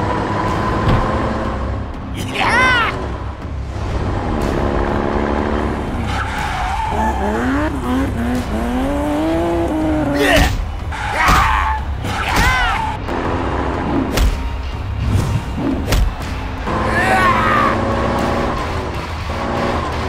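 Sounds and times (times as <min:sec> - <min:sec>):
vehicle engine revving: 0:00.0 - 0:02.2, 0:02.9 - 0:11.1, 0:12.8 - 0:20.0.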